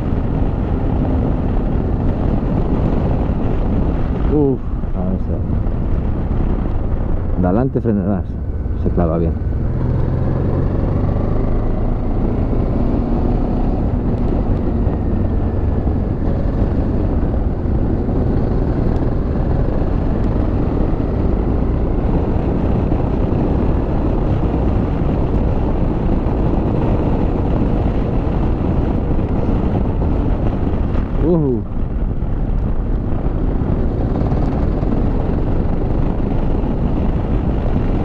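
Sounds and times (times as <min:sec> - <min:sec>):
motorcycle engine running steadily: 0:00.0 - 0:38.0
wind rushing over microphone: 0:00.0 - 0:38.0.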